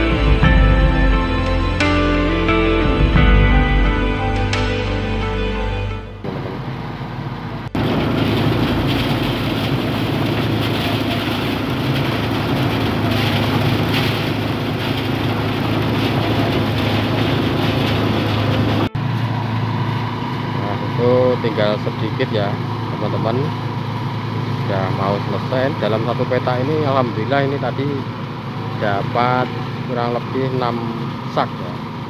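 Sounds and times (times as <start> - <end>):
thresher running: 6.2 - 32.0.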